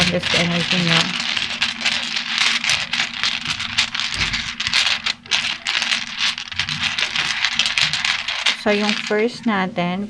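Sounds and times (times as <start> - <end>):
dice rattling and clicking: 0.0 - 9.3.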